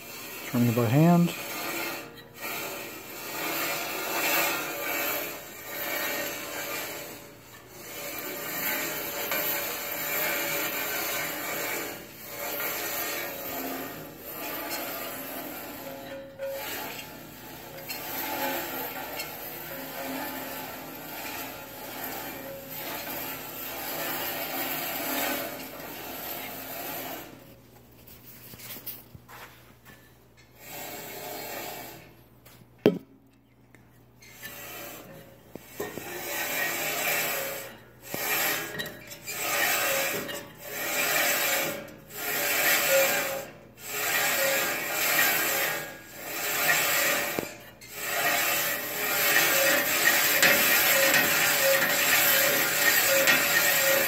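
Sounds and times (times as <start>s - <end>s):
bandsaw running: 0.0s - 27.4s, 34.4s - 54.0s.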